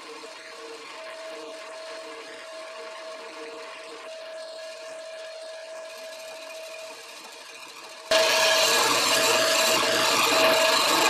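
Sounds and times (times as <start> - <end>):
chisel cutting spinning wood: 0.0 - 11.0
lathe motor hum: 0.0 - 11.0.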